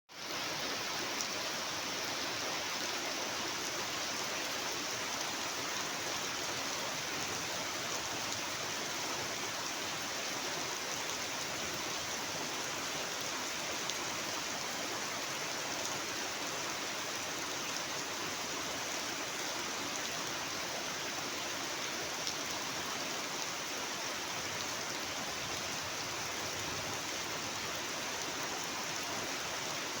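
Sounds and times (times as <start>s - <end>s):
heavy rain downpour: 0.2s - 30.0s.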